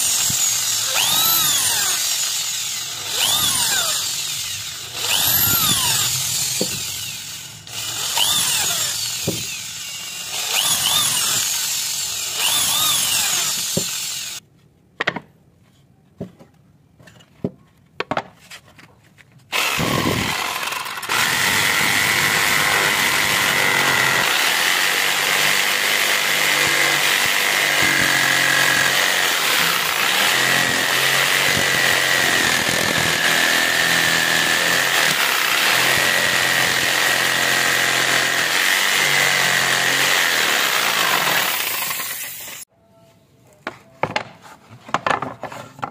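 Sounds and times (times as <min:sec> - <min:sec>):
electric drill boring into wood: 0:00.0 - 0:14.4, 0:19.5 - 0:42.7
jigsaw cutting wood: 0:00.0 - 0:14.4, 0:19.5 - 0:42.7.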